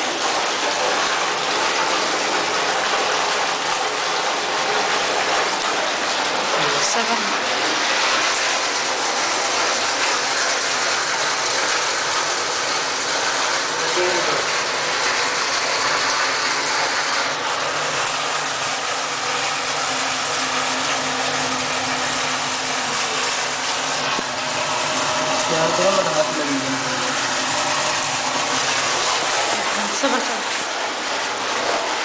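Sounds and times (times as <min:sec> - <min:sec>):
water rushing from pipe: 0:00.0 - 0:32.0.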